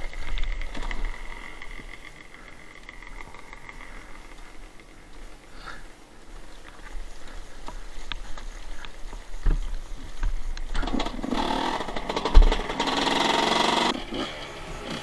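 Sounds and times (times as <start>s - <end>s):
dirt bike engine: 0.0s - 15.0s.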